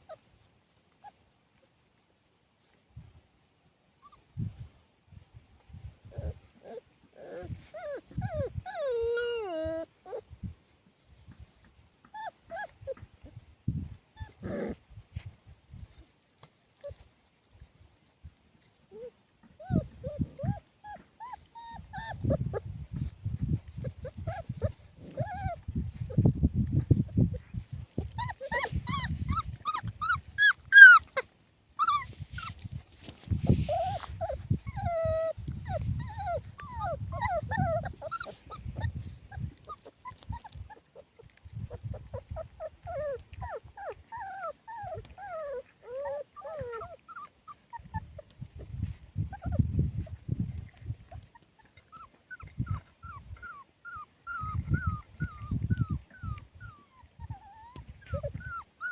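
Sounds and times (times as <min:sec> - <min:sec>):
puppies whimpering and squealing: 0:06.0 - 0:10.6, 0:11.3 - 0:15.0, 0:18.8 - 0:58.9.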